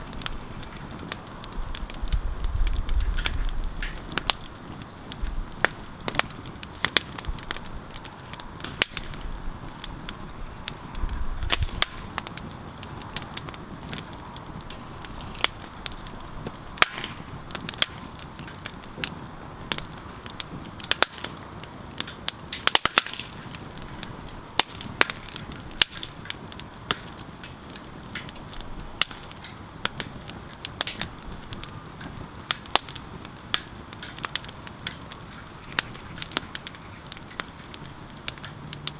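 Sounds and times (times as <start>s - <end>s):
campfire crackling and popping: 0.0s - 38.9s
soft steady hiss: 0.0s - 38.9s.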